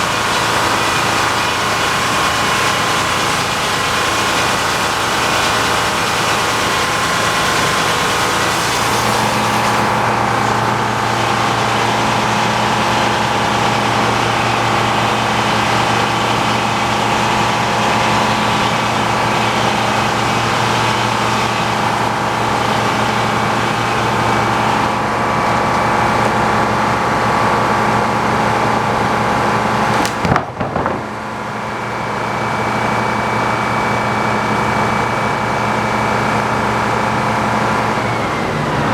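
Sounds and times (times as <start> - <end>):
sawmill machinery hum: 0.0 - 38.9
tractor engine running: 0.0 - 38.9.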